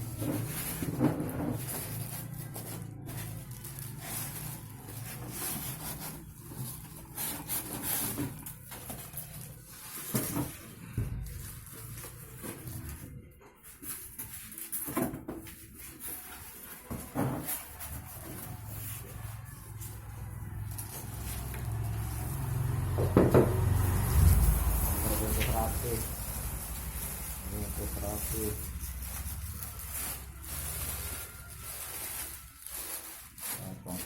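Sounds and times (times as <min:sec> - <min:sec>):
packaging rustling: 0:00.1 - 0:22.9, 0:23.9 - 0:34.0.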